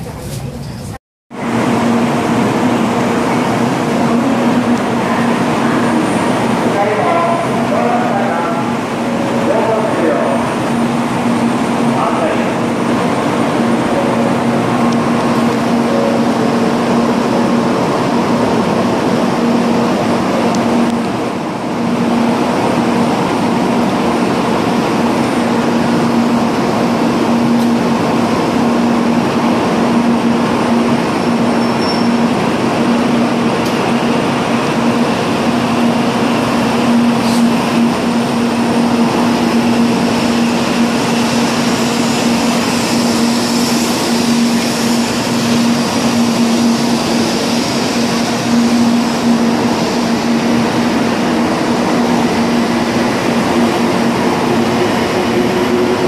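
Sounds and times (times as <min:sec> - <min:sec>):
train mechanical hum: 0:00.0 - 0:56.0.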